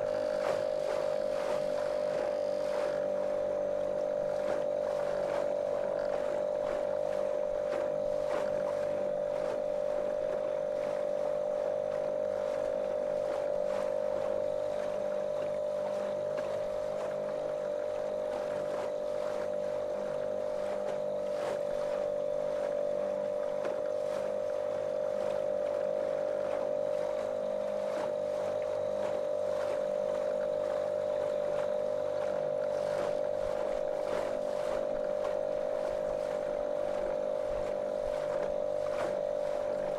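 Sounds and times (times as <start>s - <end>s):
motorboat motor droning: 0.0s - 39.9s
water splashing on hull: 0.0s - 39.9s.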